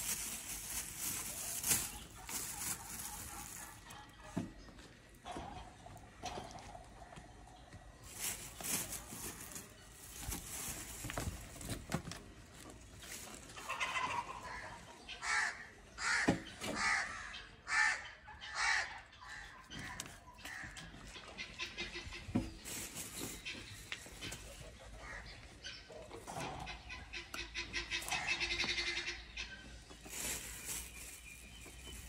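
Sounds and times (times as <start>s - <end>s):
faint background birds: 0.0s - 32.0s.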